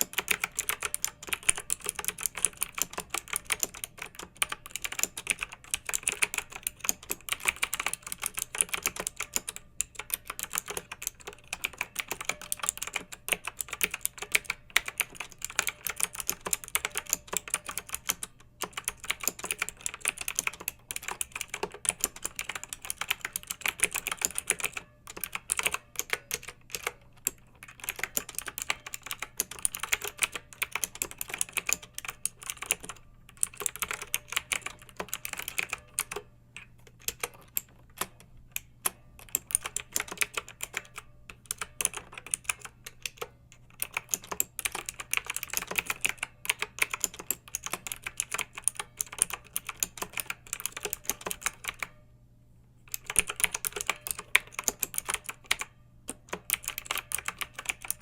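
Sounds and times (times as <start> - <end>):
mechanical keyboard typing: 0.0 - 52.0, 52.9 - 58.0.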